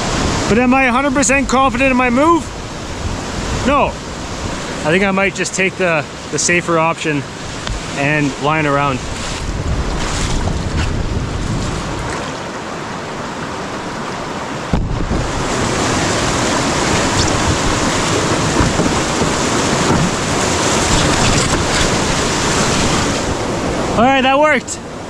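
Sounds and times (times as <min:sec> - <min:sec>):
river rapid rushing: 0:00.0 - 0:25.0.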